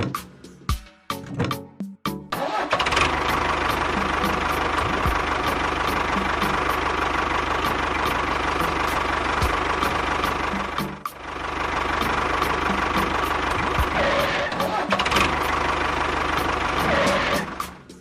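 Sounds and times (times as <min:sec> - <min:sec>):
small tractor engine running: 0:02.3 - 0:18.0.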